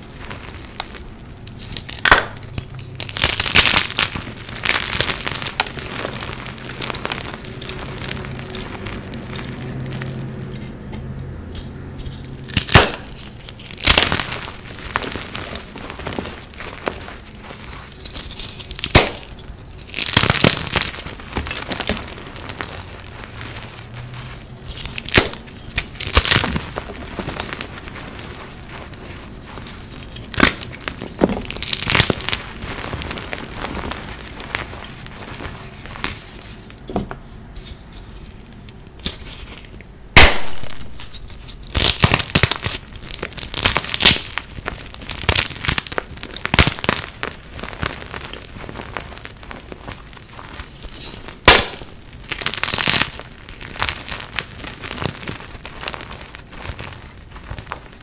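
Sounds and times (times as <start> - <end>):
chalk crunching and crumbling: 0.0 - 58.0.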